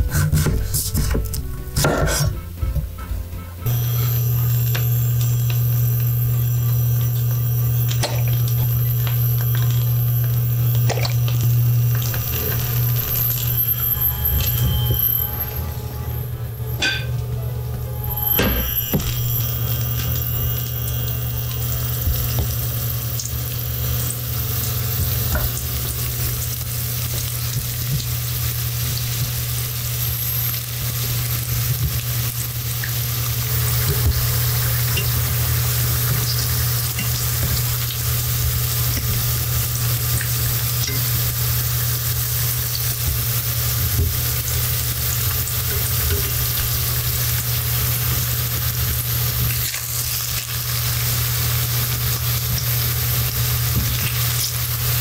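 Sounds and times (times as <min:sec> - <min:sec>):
low hum: 0:01.4 - 0:55.0
sweet potato sizzling in oil: 0:03.6 - 0:15.6, 0:18.0 - 0:55.0.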